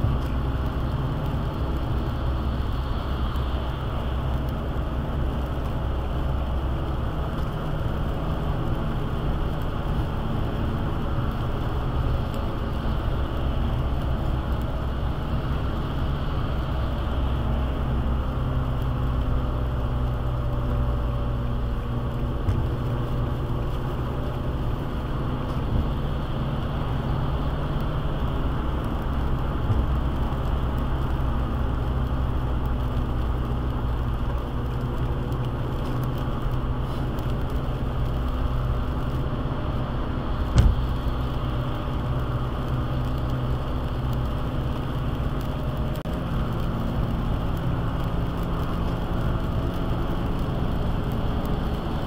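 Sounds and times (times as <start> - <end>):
car road noise and engine hum: 0.0 - 52.0.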